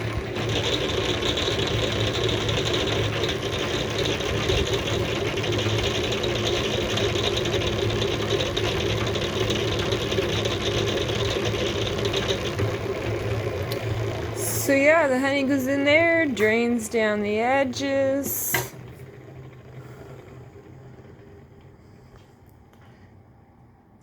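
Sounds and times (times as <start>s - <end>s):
honey extractor whirring: 0.0s - 24.0s.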